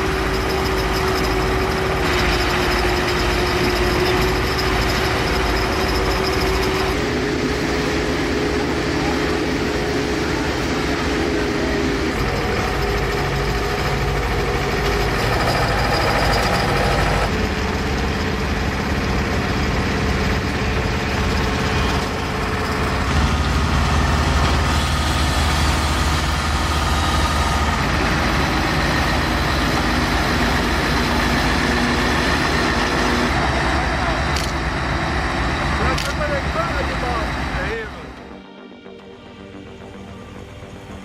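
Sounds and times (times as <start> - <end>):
diesel truck engines rumbling: 0.0 - 41.0.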